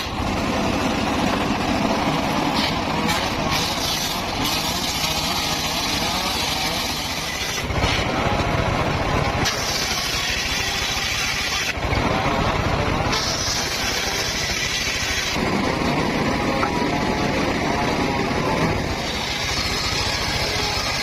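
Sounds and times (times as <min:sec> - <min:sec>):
circular saw running: 0:00.0 - 0:21.0.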